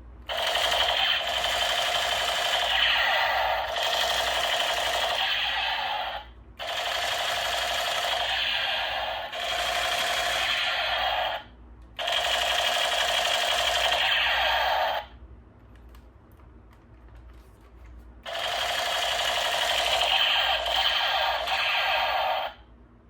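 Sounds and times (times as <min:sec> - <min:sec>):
toy gun electronic firing rattle: 0:00.3 - 0:15.1, 0:18.2 - 0:22.6.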